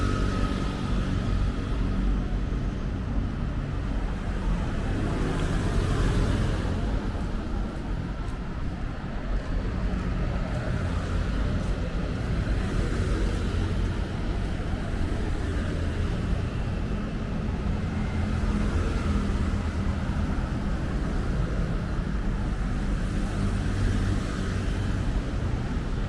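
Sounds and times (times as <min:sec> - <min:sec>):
city road traffic rumble: 0:00.0 - 0:26.0.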